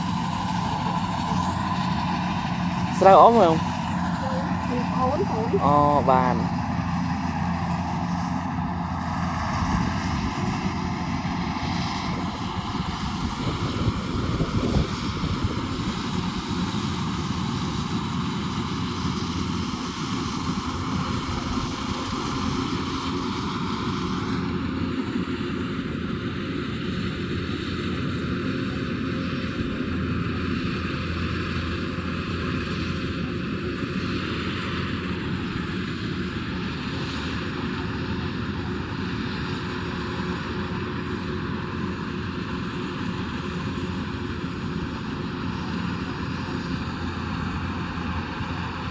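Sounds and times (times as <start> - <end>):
combine harvester engine drone: 0.0 - 48.9.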